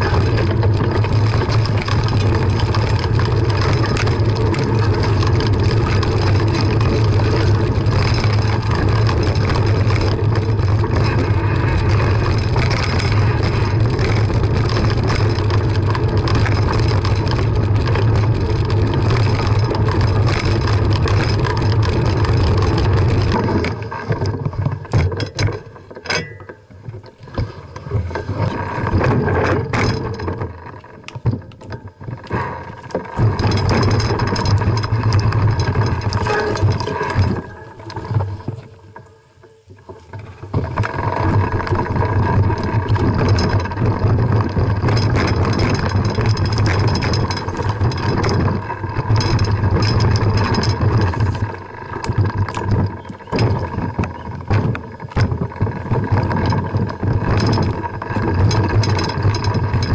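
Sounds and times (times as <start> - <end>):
mountain bike rattling over rocks: 0.0 - 59.9.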